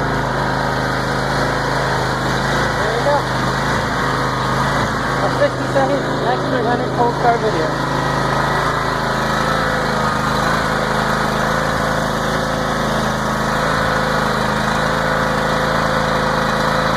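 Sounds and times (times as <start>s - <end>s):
lawn tractor engine idling: 0.0s - 16.9s.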